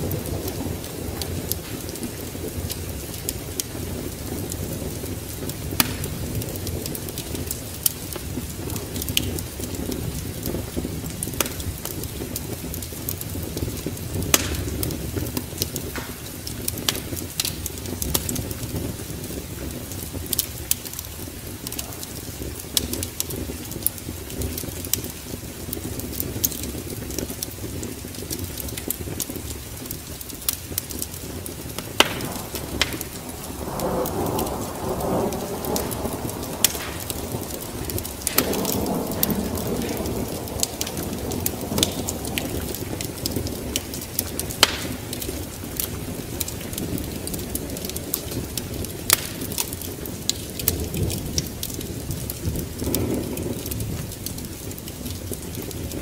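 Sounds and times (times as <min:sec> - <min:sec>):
rain: 0:00.0 - 0:56.0
wind: 0:00.0 - 0:56.0
wood fire crackling and popping: 0:00.0 - 0:56.0.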